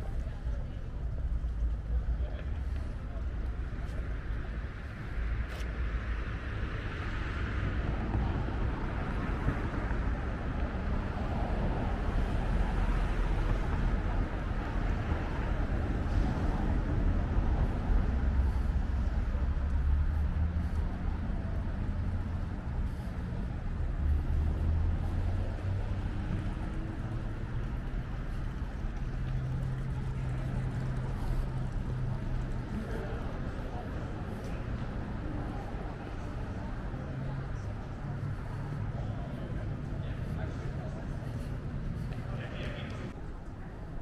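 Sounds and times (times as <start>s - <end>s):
cars passing: 0.0s - 44.0s
steady engine hum: 0.0s - 44.0s.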